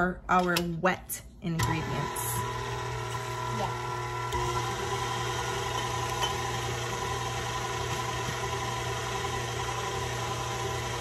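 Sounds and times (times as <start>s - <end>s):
electric hand mixer running: 1.6s - 11.0s.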